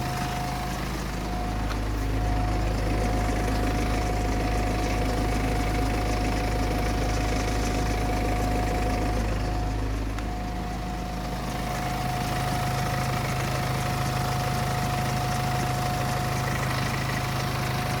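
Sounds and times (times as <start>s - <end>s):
diesel engine idling: 0.0s - 18.0s
steady whining tone: 0.0s - 18.0s.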